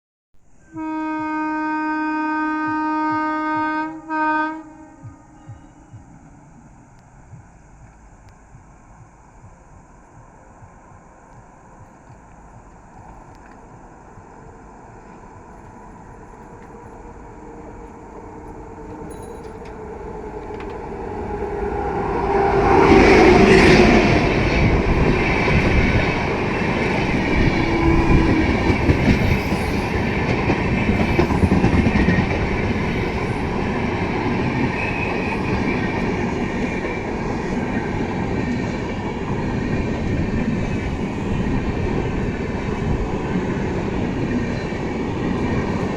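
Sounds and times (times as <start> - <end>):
electric locomotive passing: 0.4 - 45.9
train wheels clacking on rail joints: 5.0 - 45.9.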